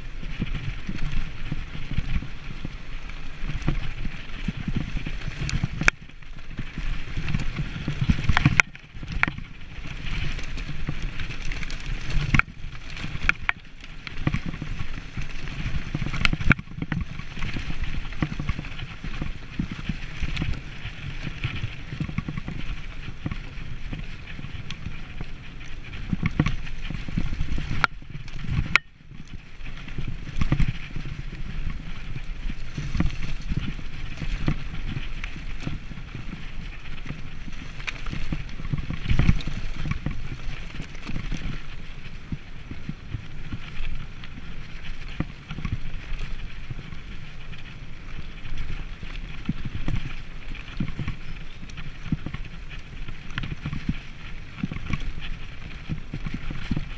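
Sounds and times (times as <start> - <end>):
bike rattling over dirt track: 0.0 - 56.9.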